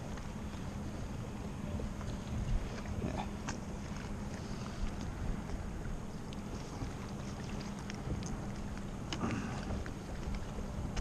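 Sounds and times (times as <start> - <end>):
wind buffeting microphone: 0.0 - 3.8, 4.6 - 11.0
steady low hum: 0.0 - 11.0
water moving around kayak: 0.0 - 11.0.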